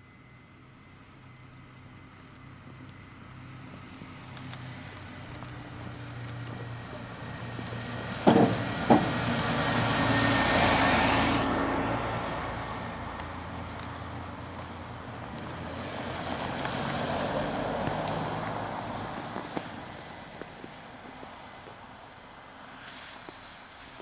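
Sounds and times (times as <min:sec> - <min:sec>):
vehicles driving past: 0:02.1 - 0:24.0
tyres swishing: 0:04.0 - 0:24.0.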